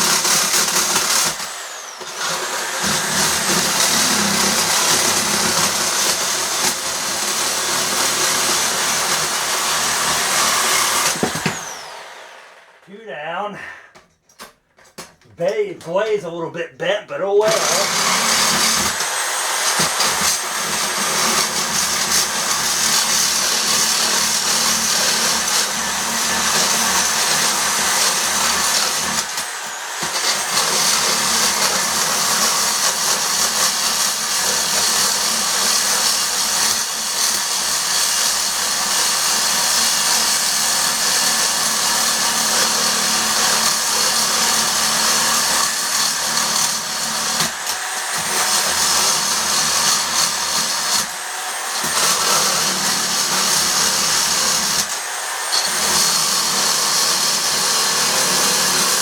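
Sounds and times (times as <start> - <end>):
electric saw cutting metal: 0.0 - 12.9, 17.4 - 59.0.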